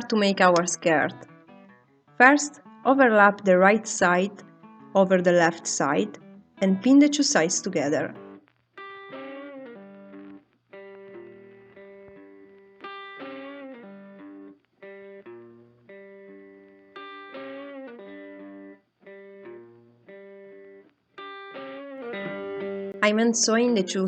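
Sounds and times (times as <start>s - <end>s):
blues electric guitar music: 0.0s - 24.0s.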